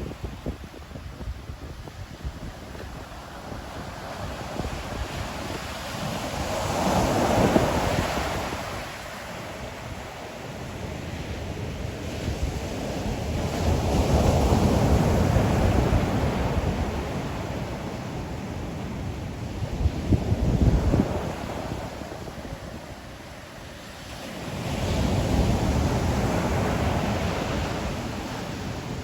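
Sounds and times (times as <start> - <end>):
ocean waves breaking on shore: 0.0 - 29.0
wind buffeting microphone: 0.0 - 29.0.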